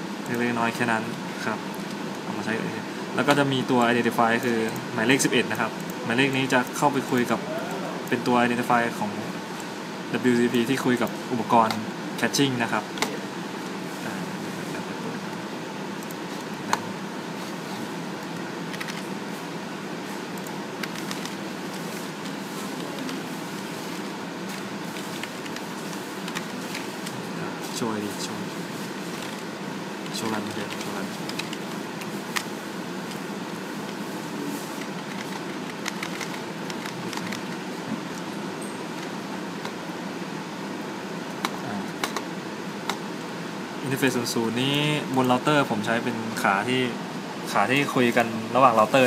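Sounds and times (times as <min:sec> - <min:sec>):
equipment fan noise: 0:00.0 - 0:49.0.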